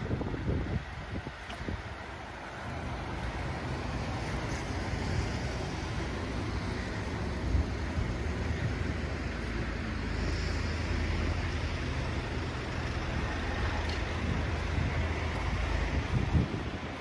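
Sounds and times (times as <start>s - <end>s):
motor vehicle rumbling: 0.0s - 17.0s.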